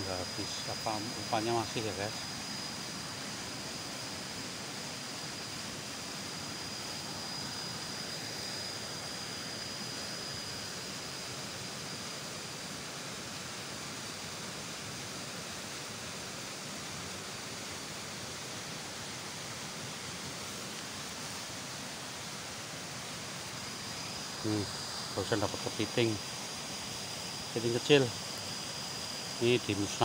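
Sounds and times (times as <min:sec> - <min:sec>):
faint high whine: 0:00.0 - 0:30.0
rushing hiss of outdoor noise: 0:00.0 - 0:30.0.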